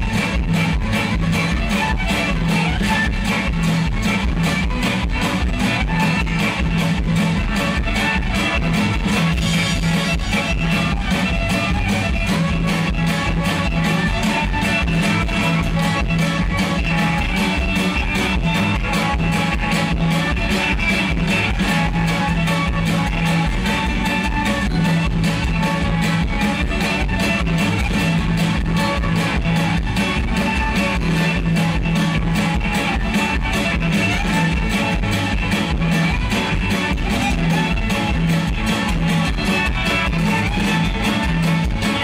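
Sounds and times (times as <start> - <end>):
folk-rock band playing a reel: 0.0 - 42.0.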